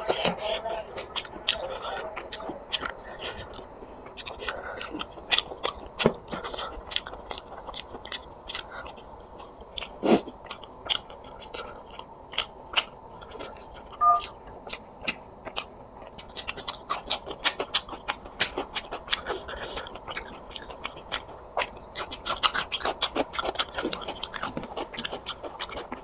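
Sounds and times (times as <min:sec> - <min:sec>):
person chewing food: 0:00.0 - 0:26.0
food crunches: 0:01.0 - 0:26.0.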